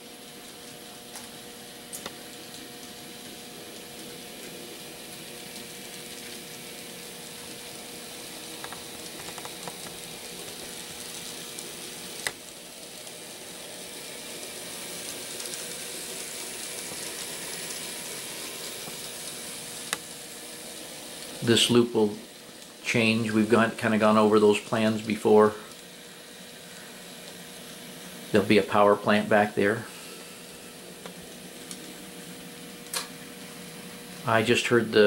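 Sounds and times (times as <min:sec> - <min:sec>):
model train whirring on rails: 0:00.0 - 0:35.0.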